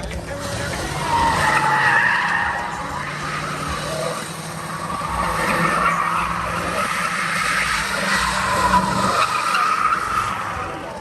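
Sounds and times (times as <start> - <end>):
engine at high revs: 0.0 - 11.0
tires squealing: 0.0 - 11.0.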